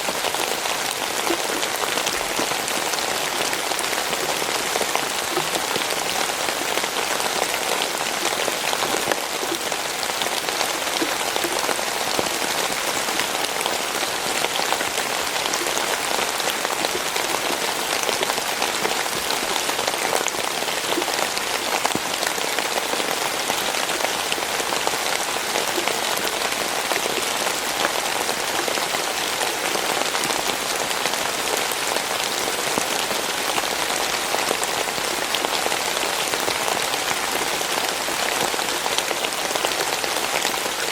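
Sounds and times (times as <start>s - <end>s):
rain drops pattering on a surface: 0.0s - 40.9s.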